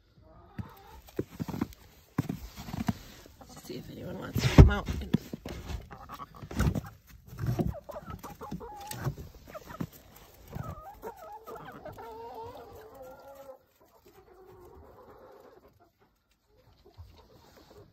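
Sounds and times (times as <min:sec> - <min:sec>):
hens clucking: 0:00.0 - 0:17.9.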